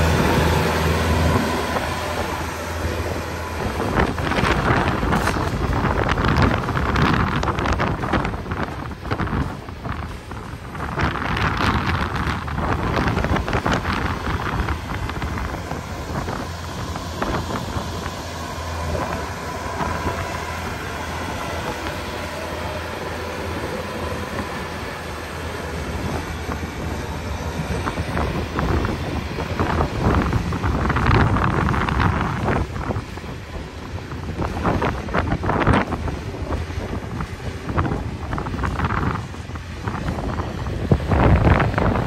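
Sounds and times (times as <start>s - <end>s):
tractor engine running: 0.0s - 42.0s
wind buffeting microphone: 0.0s - 42.0s.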